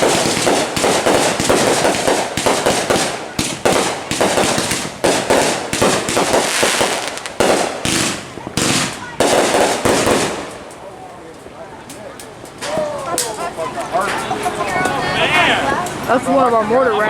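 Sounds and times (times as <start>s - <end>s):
fireworks banging and crackling: 0.0s - 16.4s.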